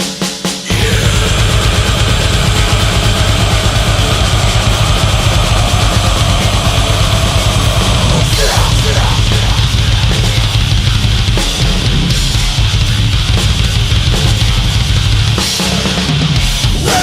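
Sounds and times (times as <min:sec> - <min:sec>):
drum kit playing: 0:00.0 - 0:17.0
distorted guitars: 0:00.6 - 0:17.0
bass guitar: 0:00.7 - 0:17.0.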